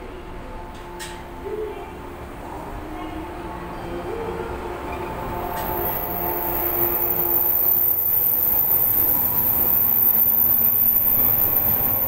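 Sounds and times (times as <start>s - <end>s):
electric train running past: 0.0s - 12.0s.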